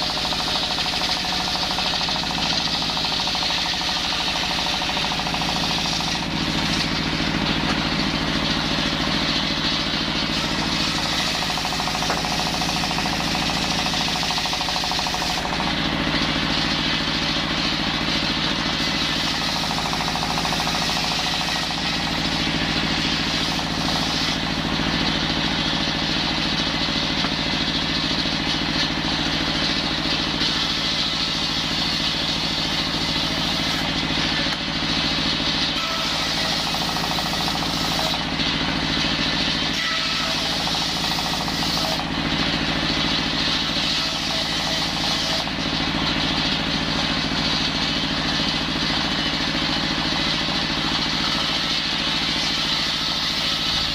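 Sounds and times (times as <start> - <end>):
petrol circular saw cutting timber: 0.0 - 53.9.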